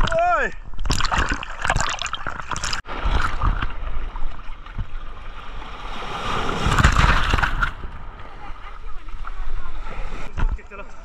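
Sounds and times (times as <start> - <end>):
sea waves sloshing: 0.9 - 11.0.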